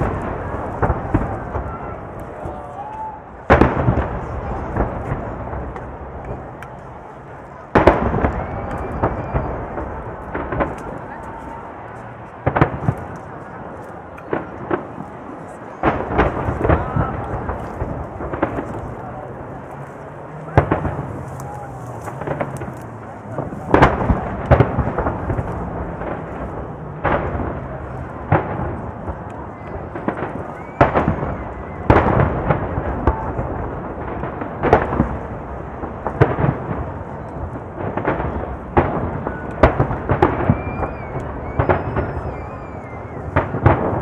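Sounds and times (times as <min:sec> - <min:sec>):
firework shells booming: 0:00.0 - 0:44.0
fireworks crackling: 0:00.0 - 0:44.0.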